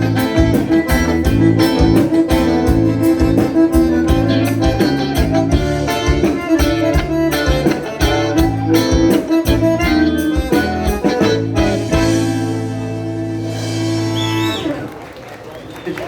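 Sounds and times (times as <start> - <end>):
accordion and guitar music: 0.0 - 14.8.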